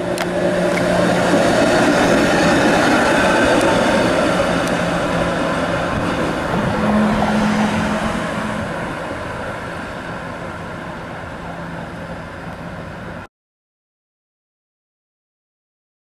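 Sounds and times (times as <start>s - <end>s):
street traffic noise: 0.0s - 13.3s
streetcar running with low hum: 0.0s - 13.3s.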